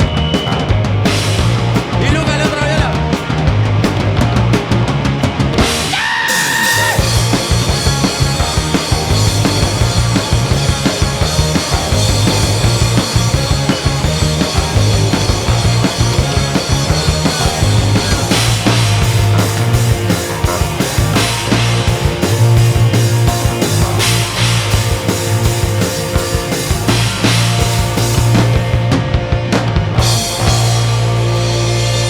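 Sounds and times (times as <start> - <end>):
bass guitar: 0.0 - 32.0
distorted guitars: 0.0 - 32.0
drum kit: 0.0 - 32.0.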